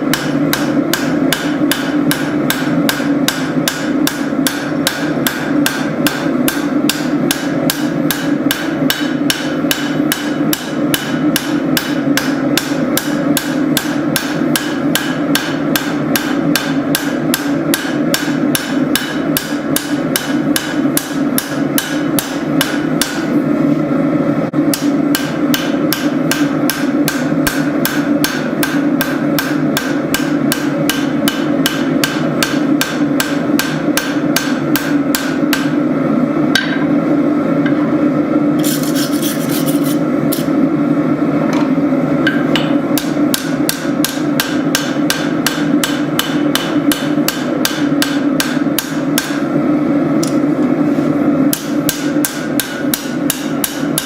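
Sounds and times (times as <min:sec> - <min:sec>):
hammer striking steel on anvil: 0:00.0 - 0:23.2, 0:24.7 - 0:35.8, 0:36.5 - 0:36.9, 0:42.2 - 0:49.4, 0:51.5 - 0:54.0.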